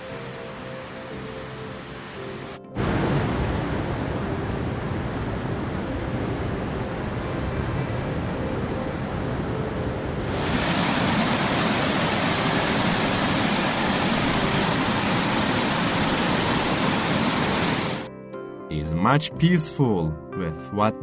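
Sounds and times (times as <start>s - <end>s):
rushing water: 0.0s - 18.1s.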